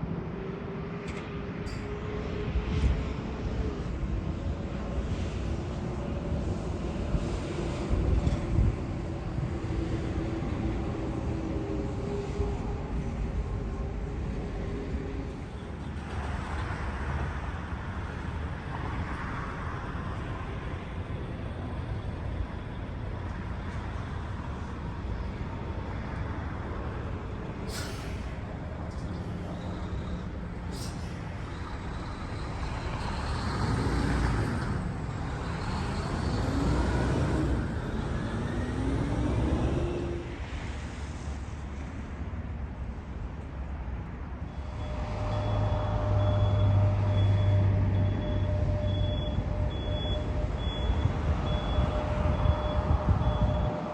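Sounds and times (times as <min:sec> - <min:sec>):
airliner engines rumbling: 0:00.0 - 0:53.9.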